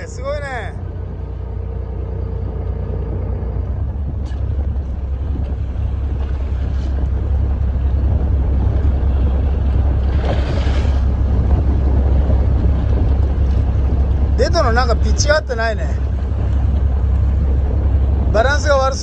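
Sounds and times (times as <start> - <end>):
boat engine rumble: 0.0 - 19.0
wind buffeting the microphone: 2.4 - 19.0.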